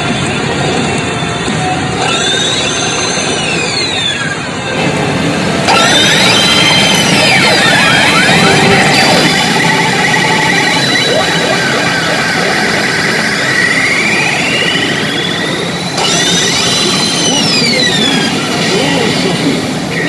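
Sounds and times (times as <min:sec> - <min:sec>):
electronic whistling tones: 0:00.0 - 0:04.8, 0:05.6 - 0:20.0.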